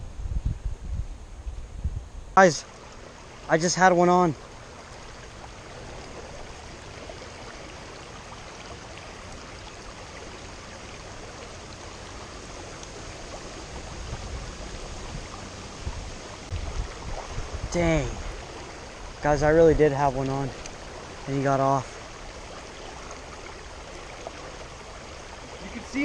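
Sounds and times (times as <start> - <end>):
river water babbling over rocks: 2.4 - 26.0.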